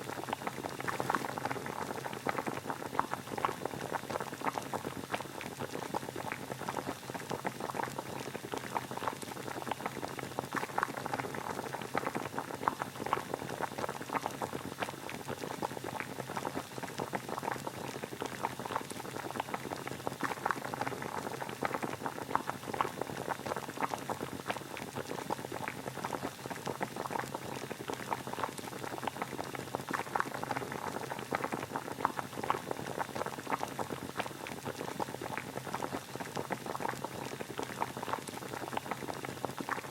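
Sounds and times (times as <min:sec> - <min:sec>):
water boiling: 0:00.0 - 0:39.9.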